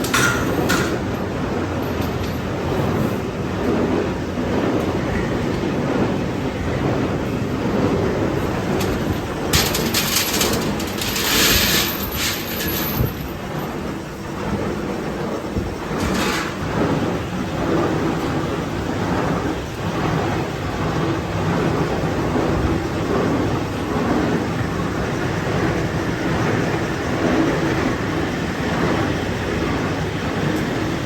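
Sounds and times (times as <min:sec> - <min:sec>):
factory machinery rumbling: 0:00.0 - 0:31.0.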